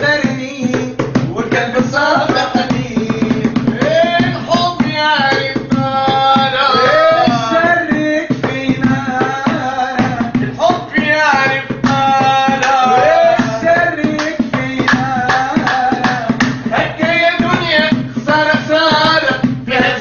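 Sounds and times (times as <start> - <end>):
hand drum beating: 0.0 - 20.0.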